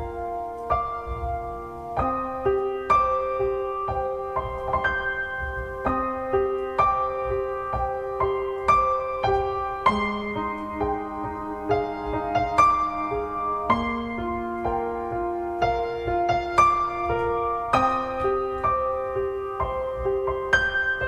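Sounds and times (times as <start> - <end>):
gentle piano piece: 0.0 - 21.0.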